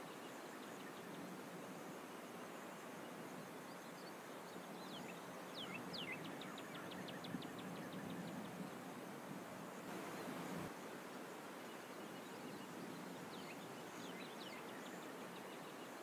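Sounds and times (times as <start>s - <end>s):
soft steady hiss: 0.0s - 16.0s.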